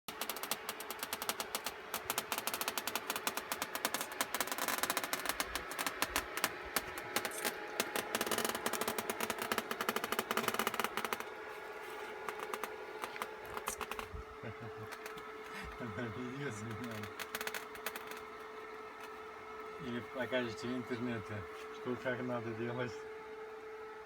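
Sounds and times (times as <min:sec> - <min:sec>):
rapid irregular crackling: 0:00.1 - 0:23.0
steady hum: 0:00.1 - 0:24.0.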